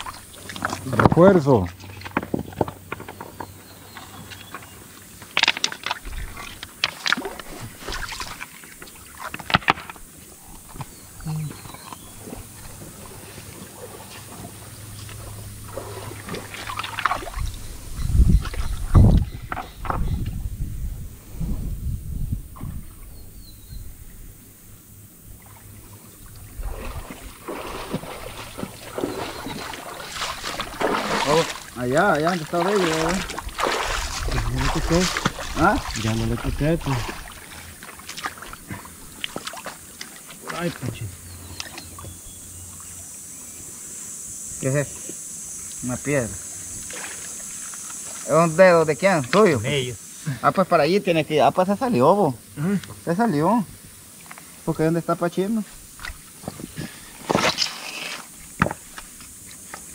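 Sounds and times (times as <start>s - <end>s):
river water splashing: 0.0s - 20.2s, 24.4s - 59.9s.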